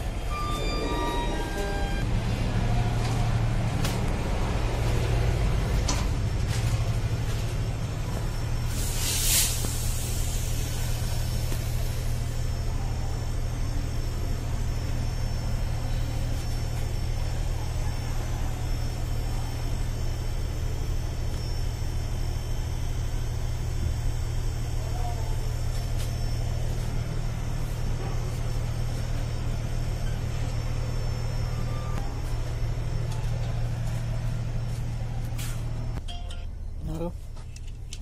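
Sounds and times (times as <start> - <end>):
low machinery drone: 0.0 - 38.0.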